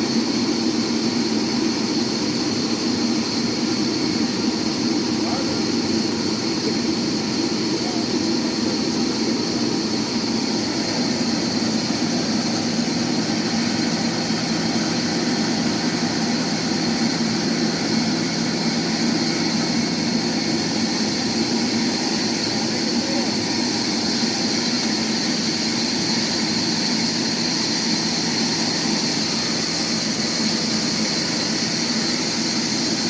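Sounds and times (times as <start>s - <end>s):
sawmill machinery drone: 0.1s - 33.0s.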